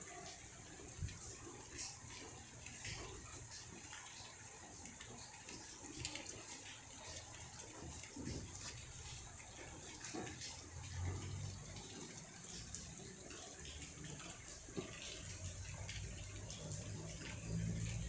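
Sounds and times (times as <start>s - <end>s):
drips and taps: 0.0s - 18.0s
rain falling: 0.0s - 18.0s
water splashing: 1.2s - 18.0s.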